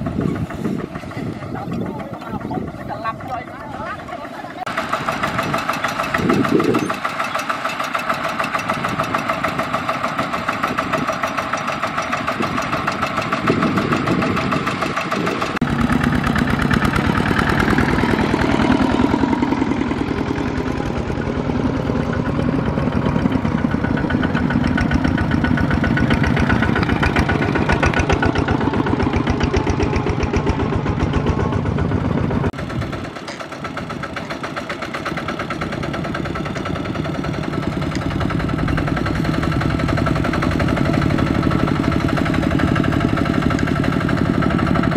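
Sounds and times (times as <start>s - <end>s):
diesel tractor engines running: 0.0s - 44.9s.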